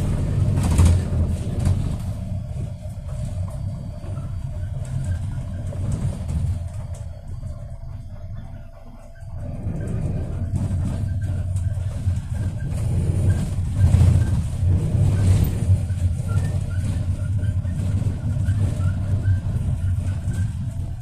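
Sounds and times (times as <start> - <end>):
minibus engine and road rumble: 0.0 - 21.0.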